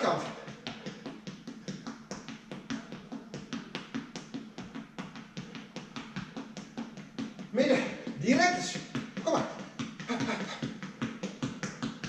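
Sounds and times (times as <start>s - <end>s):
quick footsteps on gym floor: 0.0s - 12.0s.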